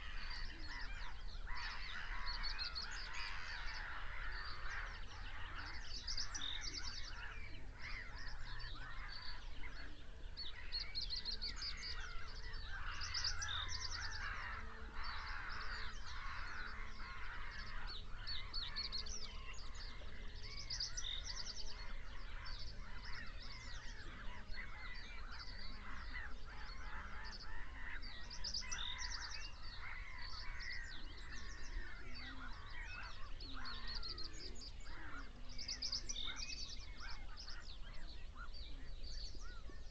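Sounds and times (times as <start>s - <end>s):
birds calling and singing: 0.0s - 39.9s.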